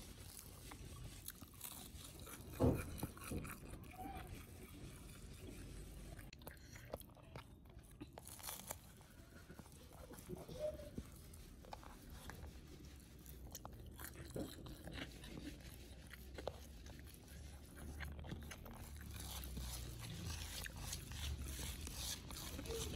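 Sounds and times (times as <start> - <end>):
chewing and crunching: 0.0 - 22.9.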